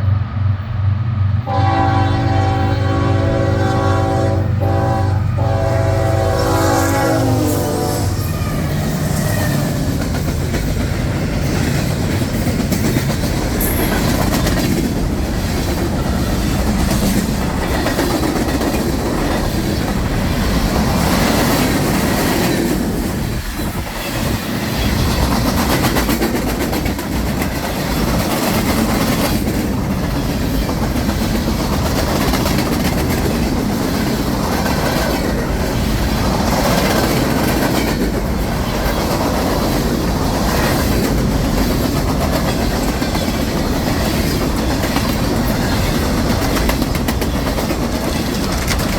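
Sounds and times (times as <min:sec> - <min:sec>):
train wheels clacking on rails: 0:06.2 - 0:48.9.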